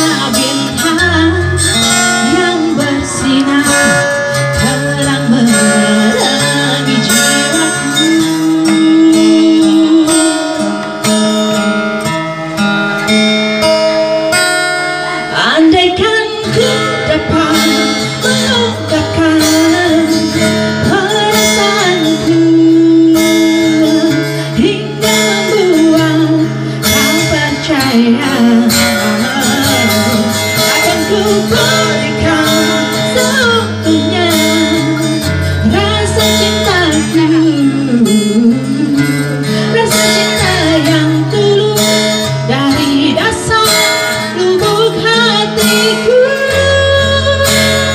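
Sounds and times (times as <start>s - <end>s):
woman singing ballad: 0.0s - 12.0s, 14.2s - 47.9s
acoustic guitar through pa: 0.0s - 47.9s.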